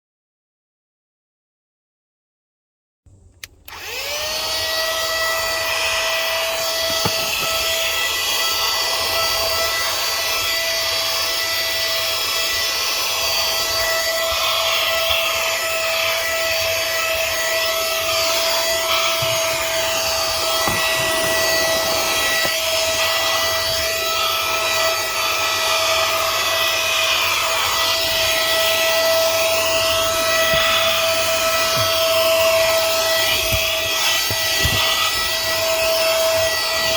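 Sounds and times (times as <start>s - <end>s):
handheld vacuum whining: 3.1s - 36.9s.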